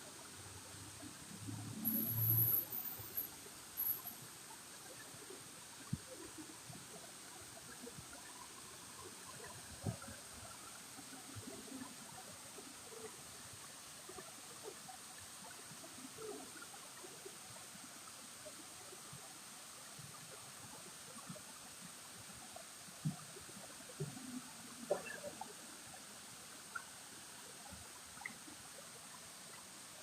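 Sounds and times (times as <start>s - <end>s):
trickling water: 0.0s - 30.0s.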